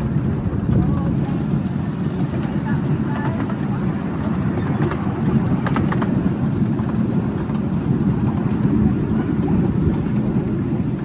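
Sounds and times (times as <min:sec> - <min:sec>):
miniature train rumbling: 0:00.0 - 0:11.0.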